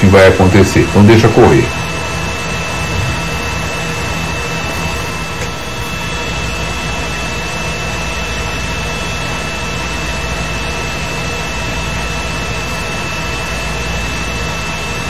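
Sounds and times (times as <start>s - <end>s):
high-pitched whine: 0.0s - 15.0s
steady whirring with low hum: 0.0s - 15.0s.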